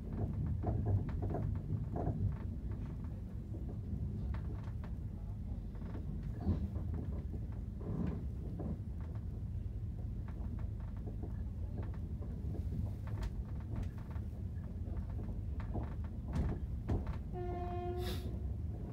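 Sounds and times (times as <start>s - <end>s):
train rumble inside carriage: 0.0s - 18.9s.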